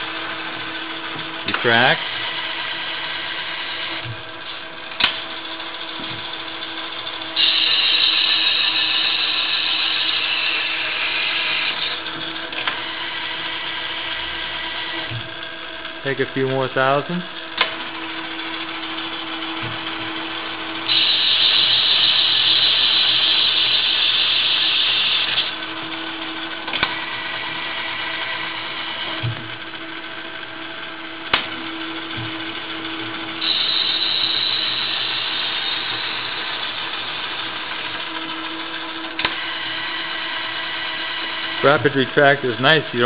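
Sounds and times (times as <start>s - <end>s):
lathe running: 0.0s - 43.0s.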